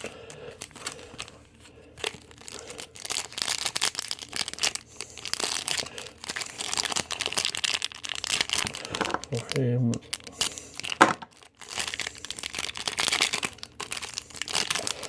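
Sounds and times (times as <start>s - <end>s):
plastic wrappers crinkling and tearing: 0.0s - 15.0s.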